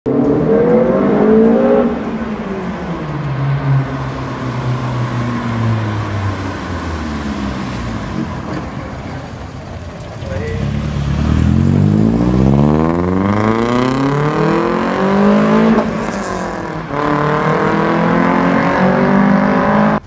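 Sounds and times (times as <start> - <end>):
car engine revving: 0.1 - 20.0.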